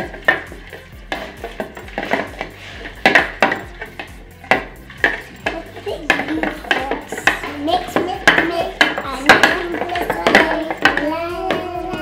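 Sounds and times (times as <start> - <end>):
metal spoons clinking on bowls: 0.0 - 12.0.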